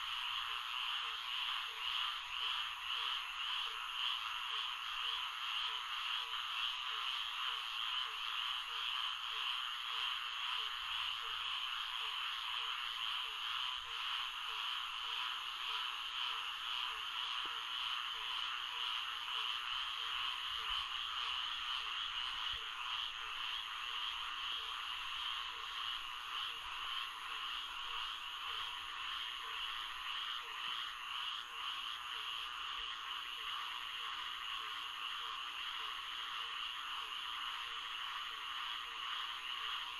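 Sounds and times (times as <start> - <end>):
frog chorus: 0.0 - 39.9
low repeating frog call: 0.0 - 39.9.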